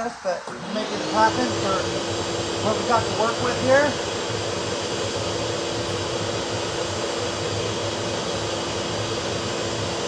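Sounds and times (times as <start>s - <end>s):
machine motor running: 0.4s - 10.0s.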